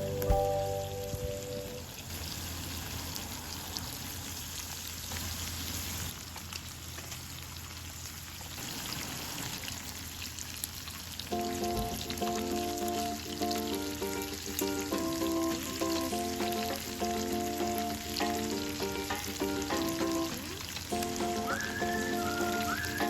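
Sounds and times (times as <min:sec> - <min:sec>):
food sizzling on griddle pan: 0:02.0 - 0:23.0.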